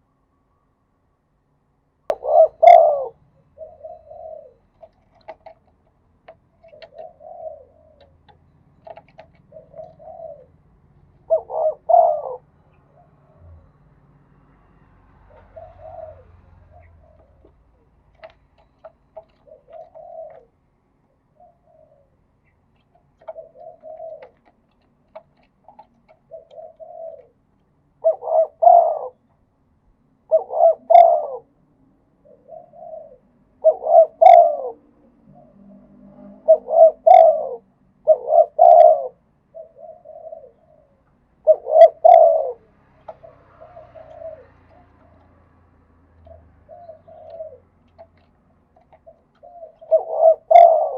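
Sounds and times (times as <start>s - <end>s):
dove cooing: 2.1s - 13.8s, 15.2s - 29.4s, 30.2s - 50.9s.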